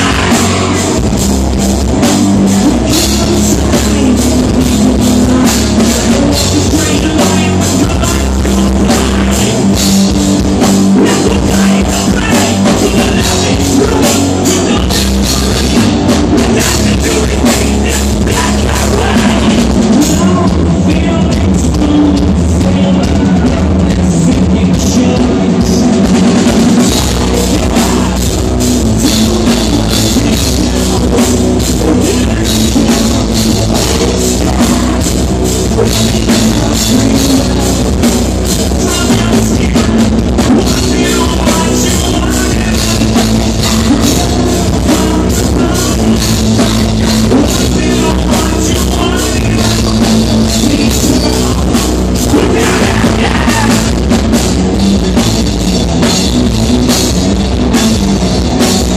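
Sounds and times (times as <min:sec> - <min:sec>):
person singing: 0:00.0 - 0:54.4
drum kit beat: 0:00.0 - 0:58.9
electric guitars: 0:00.0 - 0:58.9.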